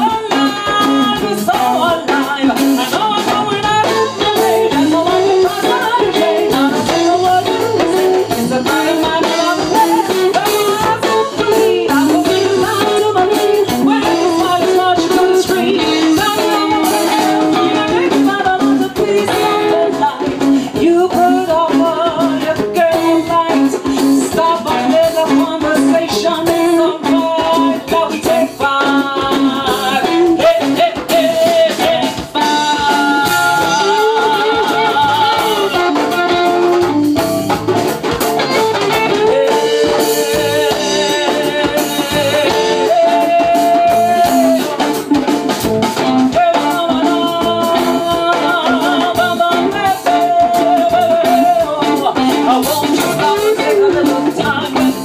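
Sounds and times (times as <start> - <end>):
live band playing: 0.0 - 55.0
person singing: 0.0 - 55.0.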